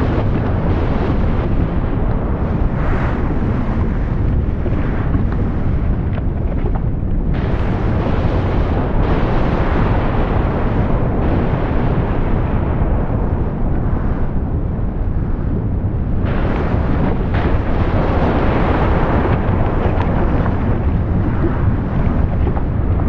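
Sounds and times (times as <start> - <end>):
volcano deep rumble: 0.0 - 23.0.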